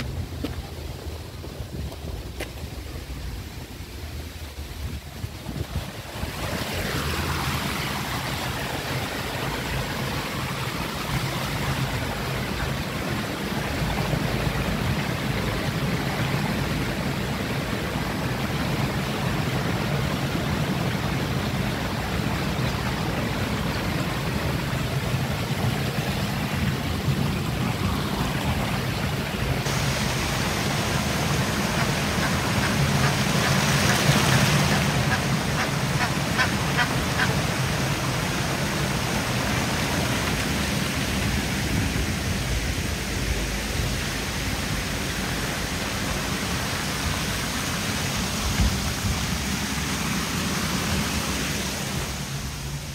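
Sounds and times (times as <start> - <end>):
running water rushing: 0.0 - 52.9.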